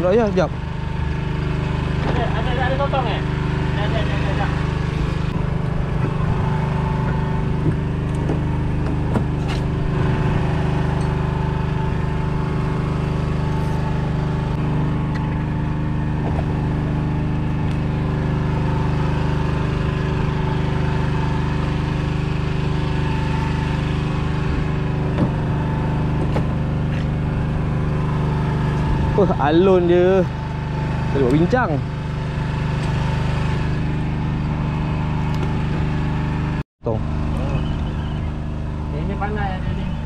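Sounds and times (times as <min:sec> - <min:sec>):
generator droning: 0:00.0 - 0:40.0.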